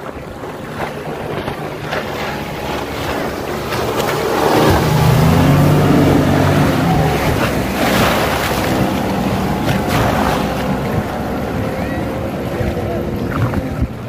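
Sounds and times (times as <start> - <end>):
churning wake and spray: 0.0 - 14.0
speedboat engine passing: 0.0 - 14.0.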